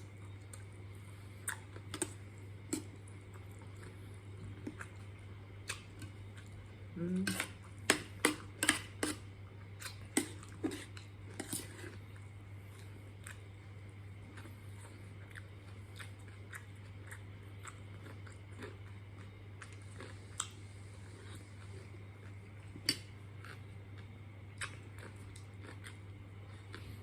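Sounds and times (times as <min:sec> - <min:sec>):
person chewing crunchy food: 0:00.0 - 0:06.7, 0:07.4 - 0:27.0
steady low hum: 0:00.0 - 0:27.0.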